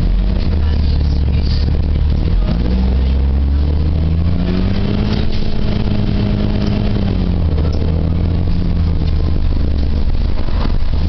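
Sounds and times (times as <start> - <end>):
bus engine accelerating: 0.0 - 11.0
steady low drone: 0.0 - 11.0.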